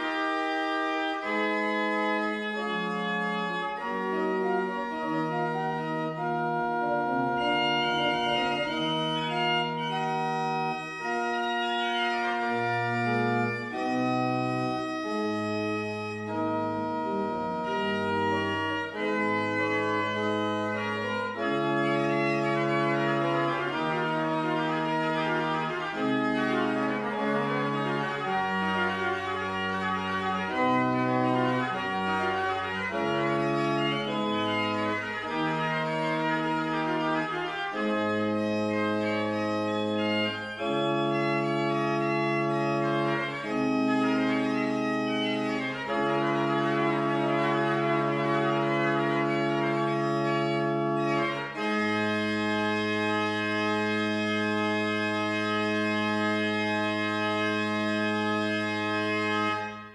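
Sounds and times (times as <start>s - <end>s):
pipe organ playing: 0.0s - 59.9s.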